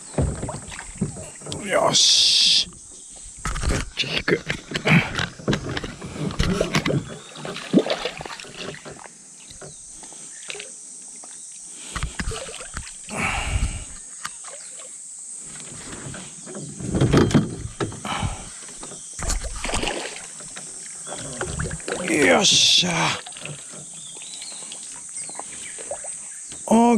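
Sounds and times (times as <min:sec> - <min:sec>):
water sloshing and splashing: 0:00.0 - 0:01.7, 0:03.4 - 0:09.8, 0:10.4 - 0:14.9, 0:15.5 - 0:26.3.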